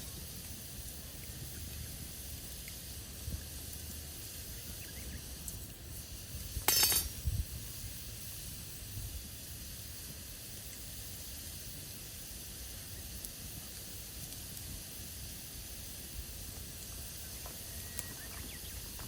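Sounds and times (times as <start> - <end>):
loud sharp crackle: 0.0 - 8.8, 9.5 - 19.0
campfire burning and crackling: 0.0 - 19.0.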